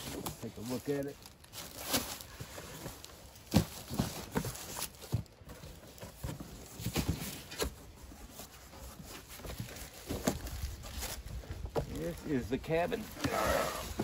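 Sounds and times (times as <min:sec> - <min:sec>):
cardboard boxes being handled: 0:00.0 - 0:14.0.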